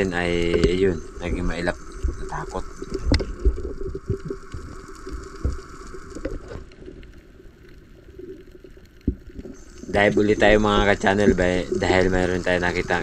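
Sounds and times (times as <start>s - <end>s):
muffled underwater movement: 0.0s - 13.0s.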